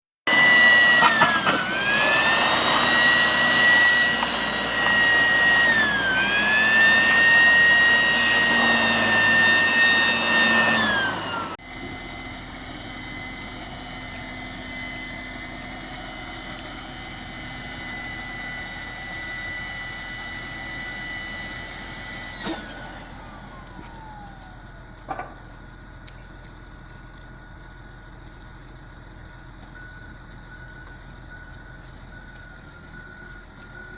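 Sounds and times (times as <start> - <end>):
boat engine whining: 0.2 - 33.9
whine winding down: 0.3 - 33.9.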